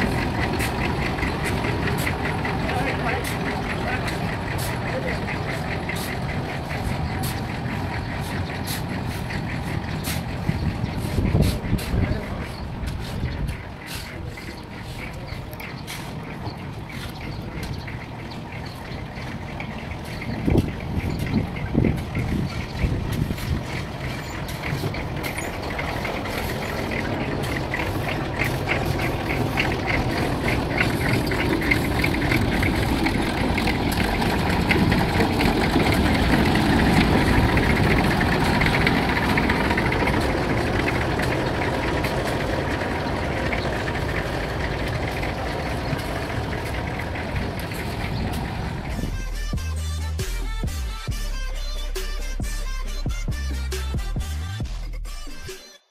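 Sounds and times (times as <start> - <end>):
diesel machinery engine rumble: 0.0 - 55.6.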